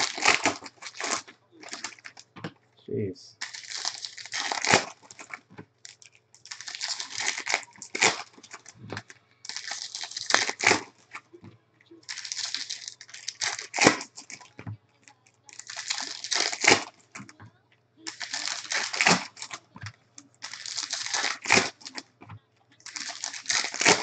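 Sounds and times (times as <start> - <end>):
plastic wrapper crinkling and tearing: 0.0 - 2.4, 3.4 - 11.3, 12.0 - 17.4, 18.0 - 24.0.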